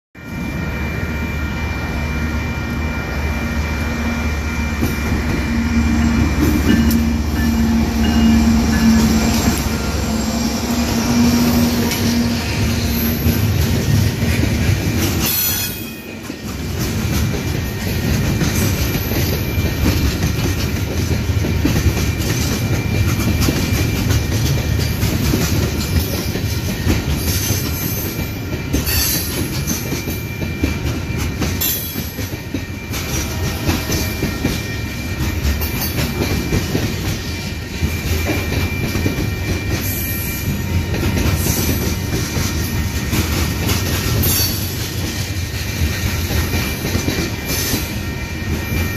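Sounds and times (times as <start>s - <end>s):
freight train rumbling past: 0.2s - 48.9s
wheels clacking over rail joints: 4.8s - 48.9s.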